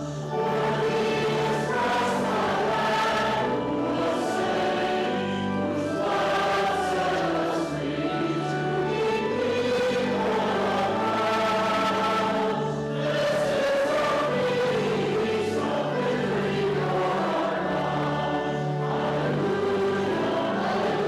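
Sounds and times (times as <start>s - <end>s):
choir and congregation singing hymn: 0.0s - 21.0s.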